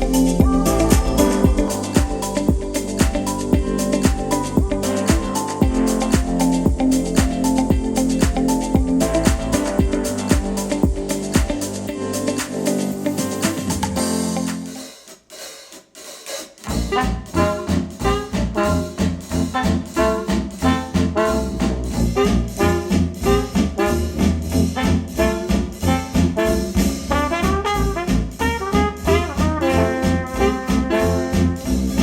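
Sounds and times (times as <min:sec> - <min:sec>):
retro jazz with brass and drums: 0:00.0 - 0:15.0, 0:16.0 - 0:32.0.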